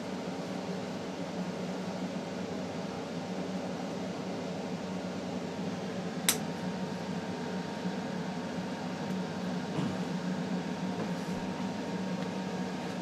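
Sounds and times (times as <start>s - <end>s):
mechanical room hum: 0.0s - 13.0s.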